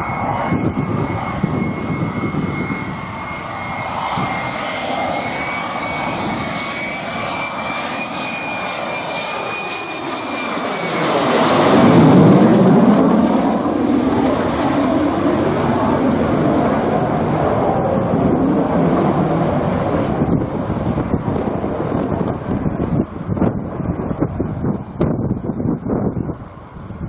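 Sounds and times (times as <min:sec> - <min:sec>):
jet engine whine and roar: 0:00.0 - 0:27.0.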